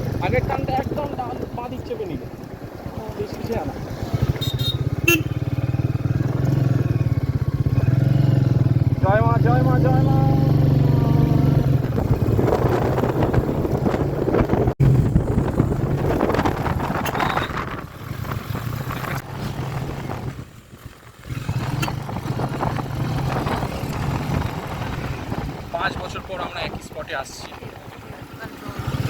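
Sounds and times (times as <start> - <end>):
wind buffeting microphone: 0.0 - 9.6, 10.2 - 29.0
motorcycle engine running: 0.0 - 29.0.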